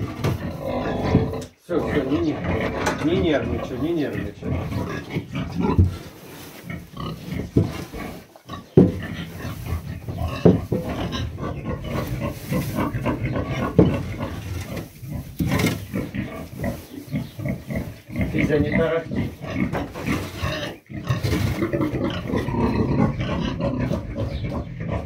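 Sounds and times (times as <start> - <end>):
pig grunting: 0.0 - 25.0.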